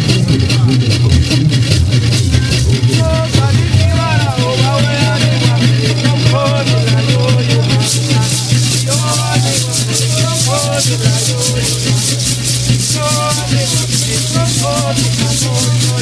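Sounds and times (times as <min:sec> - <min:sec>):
gourd rattles shaking: 0:00.0 - 0:16.0
low hum: 0:00.0 - 0:16.0
voices singing: 0:01.6 - 0:16.0.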